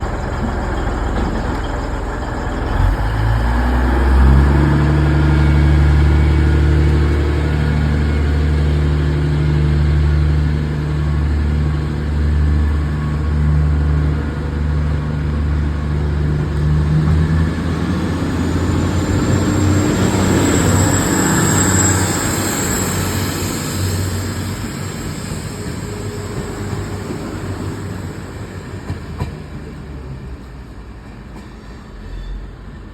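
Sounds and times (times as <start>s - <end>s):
diesel train engine: 0.0s - 32.9s.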